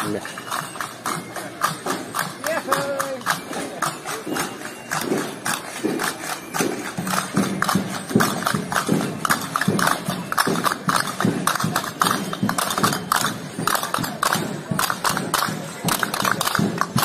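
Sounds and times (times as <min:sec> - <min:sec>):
handheld percussion strikes: 0:00.0 - 0:17.0.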